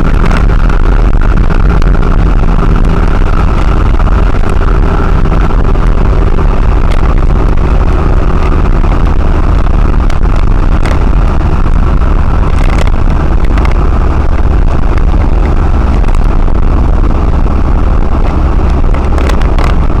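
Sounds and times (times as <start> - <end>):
lorry engine and road rumble: 0.0 - 20.0.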